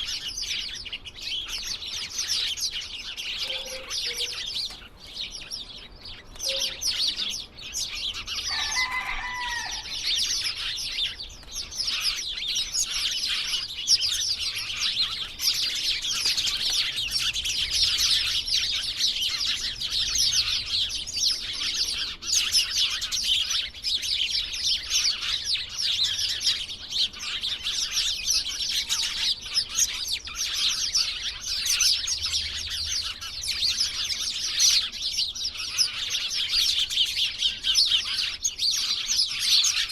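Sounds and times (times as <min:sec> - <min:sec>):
low drawn-out bird call: 0:00.0 - 0:39.9
small birds chirping: 0:00.0 - 0:39.9.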